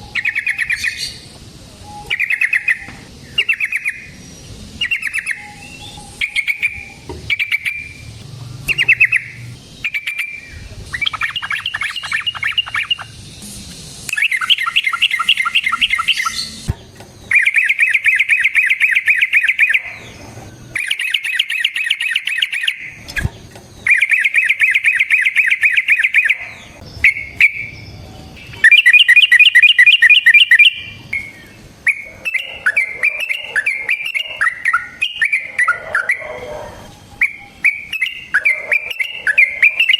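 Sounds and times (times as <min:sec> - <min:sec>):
bird singing trills: 0:00.0 - 0:13.5, 0:14.1 - 0:39.9.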